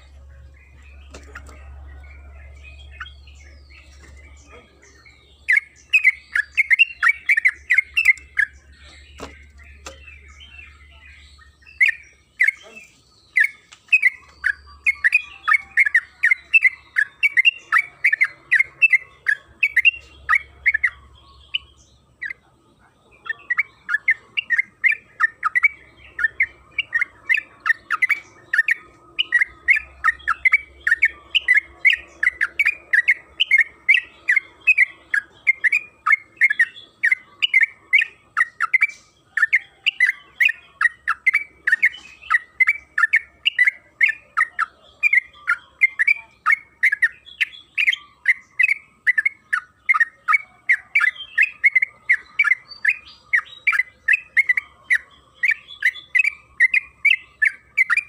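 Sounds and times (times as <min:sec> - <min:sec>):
bird singing chattering notes: 0:00.0 - 0:58.0.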